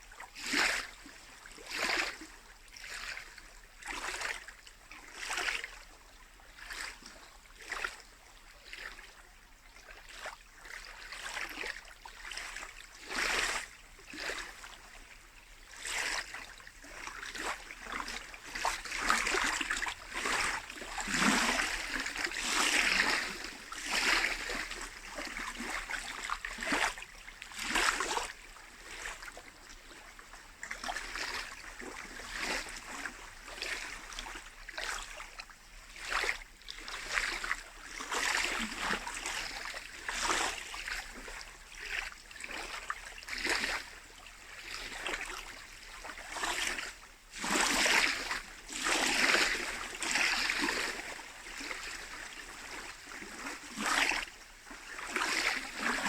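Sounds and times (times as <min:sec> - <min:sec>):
lake waves lapping on shore: 0:00.0 - 0:09.2, 0:09.8 - 0:56.0.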